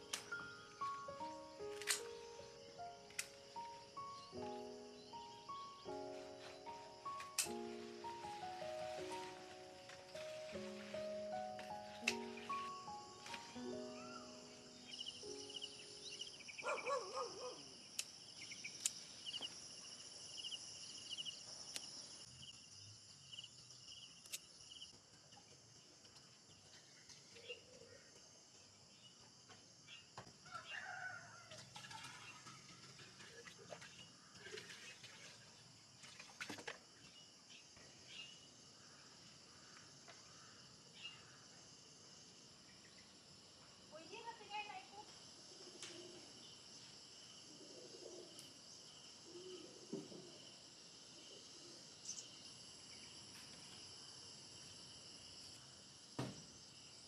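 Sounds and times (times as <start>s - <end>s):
insects chirring: 0.0s - 30.6s, 32.1s - 57.0s.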